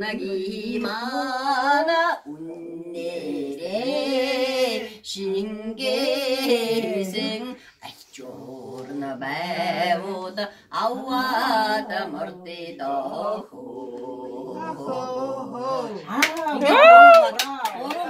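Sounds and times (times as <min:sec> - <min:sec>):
elderly woman singing unaccompanied: 0:00.0 - 0:18.0.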